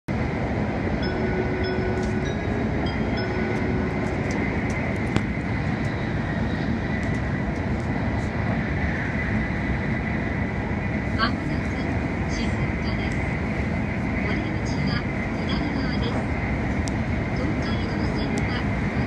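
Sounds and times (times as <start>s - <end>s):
train rumble and rush: 0.1s - 19.0s.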